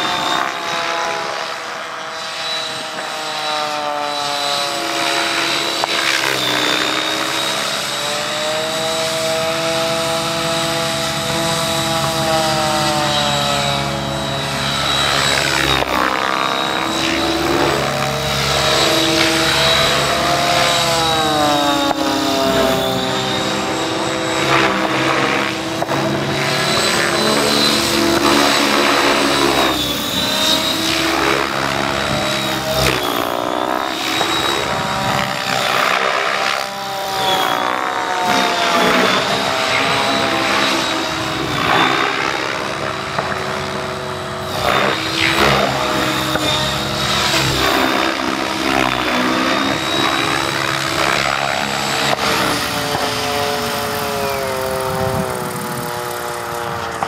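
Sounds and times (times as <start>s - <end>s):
helicopter rotor noise: 0.0s - 57.0s
high motor whine: 0.0s - 57.0s.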